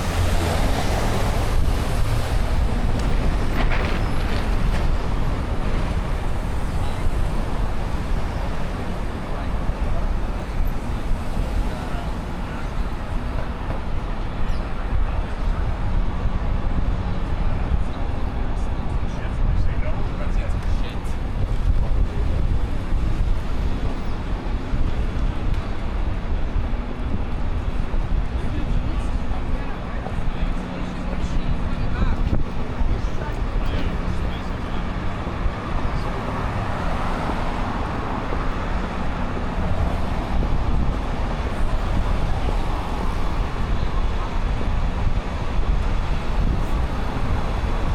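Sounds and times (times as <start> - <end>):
street traffic rumble: 0.0 - 47.9.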